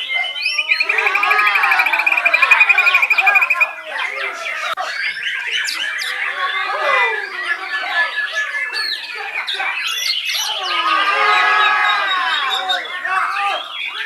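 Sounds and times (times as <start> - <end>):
birds singing and calling: 0.0 - 14.0.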